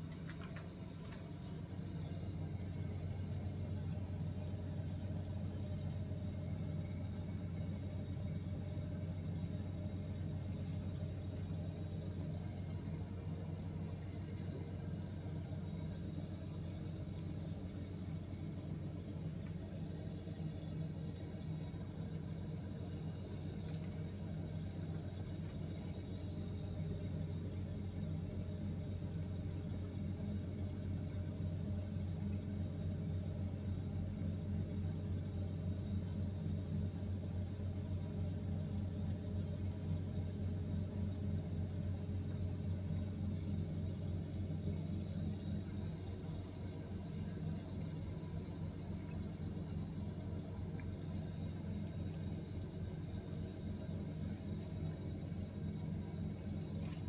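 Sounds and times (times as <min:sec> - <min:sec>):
refrigerator humming: 0:00.0 - 0:57.0.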